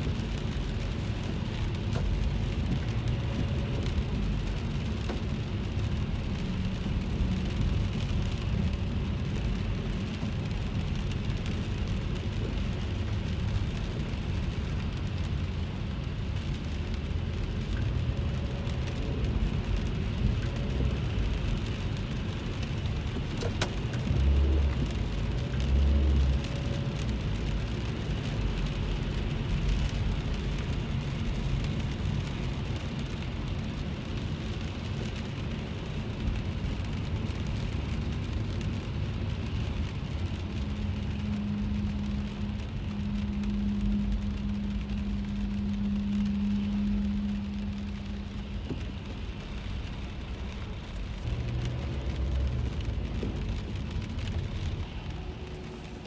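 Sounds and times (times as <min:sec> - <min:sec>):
car engine and road rumble: 0:00.0 - 0:56.0
rain and wet tyre noise: 0:00.0 - 0:56.0.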